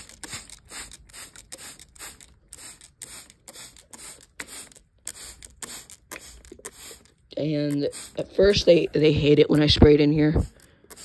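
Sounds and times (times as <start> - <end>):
spray bottle spritzing: 0.0 - 11.0.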